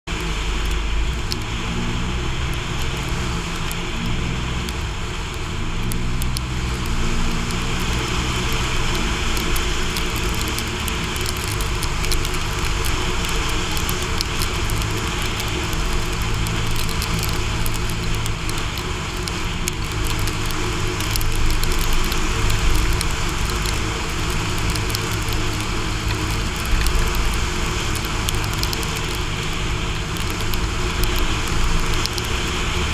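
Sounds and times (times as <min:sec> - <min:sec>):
vehicle engine running: 0:00.0 - 0:32.9
crackling ticks: 0:00.1 - 0:32.9.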